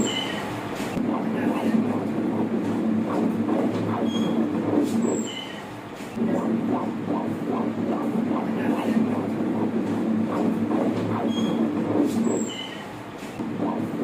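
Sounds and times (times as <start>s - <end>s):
fetal heartbeat whooshing pulse: 0.0s - 12.8s, 13.4s - 14.0s.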